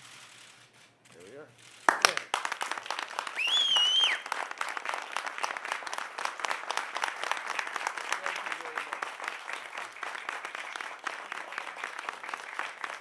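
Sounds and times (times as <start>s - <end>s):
people applauding: 1.8s - 13.0s.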